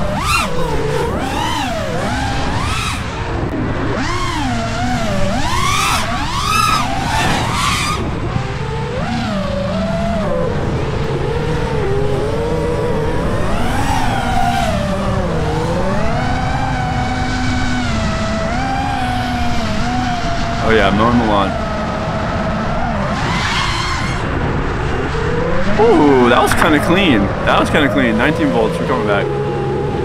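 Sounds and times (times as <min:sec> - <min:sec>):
quadcopter motors whining: 0:00.0 - 0:30.0.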